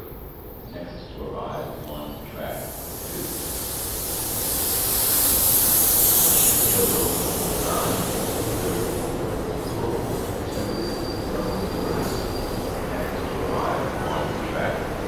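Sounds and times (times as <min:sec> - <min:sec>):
train rushing hiss and rumble: 0:00.0 - 0:15.0
high squeal from train wheels: 0:02.0 - 0:14.4.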